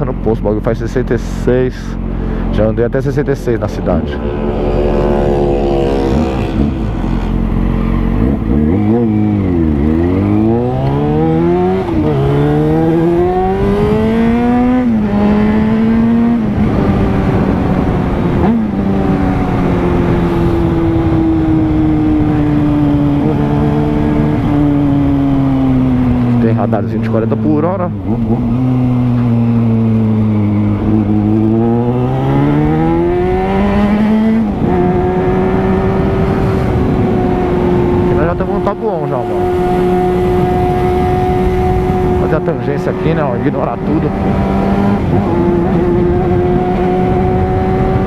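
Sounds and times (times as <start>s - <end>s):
motorcycle engine accelerating: 0.0s - 48.0s
wind noise: 3.7s - 48.0s.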